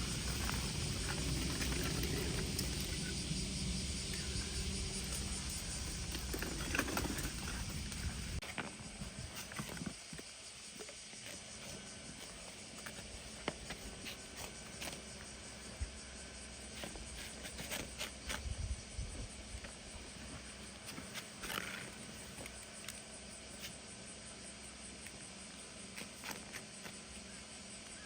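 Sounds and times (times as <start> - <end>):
outdoor ambience: 0.0 - 28.0.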